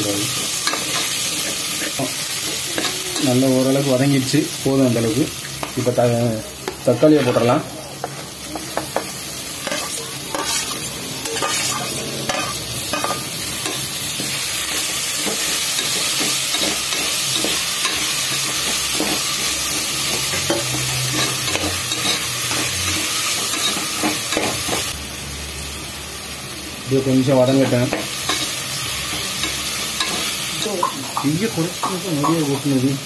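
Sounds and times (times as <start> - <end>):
vegetables sizzling in hot oil: 0.0 - 33.0.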